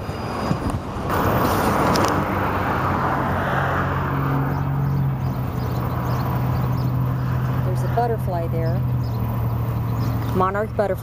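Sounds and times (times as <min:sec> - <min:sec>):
vehicle rushing past: 0:00.0 - 0:10.8
engine humming steadily: 0:00.0 - 0:11.0.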